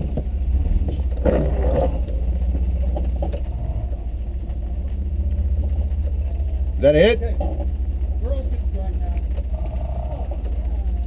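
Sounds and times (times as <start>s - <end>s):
truck engine rumbling at low revs: 0.0s - 11.0s.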